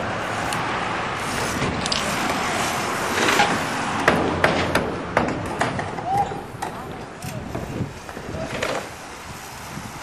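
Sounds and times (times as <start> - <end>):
steady rush of noise: 0.0 - 10.0.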